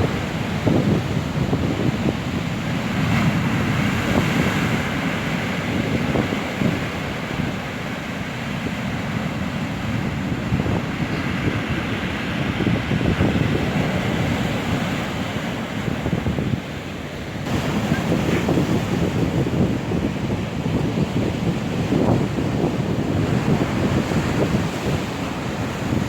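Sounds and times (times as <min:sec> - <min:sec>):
surf breaking on shore: 0:00.0 - 0:26.0
wind buffeting microphone: 0:00.0 - 0:26.0.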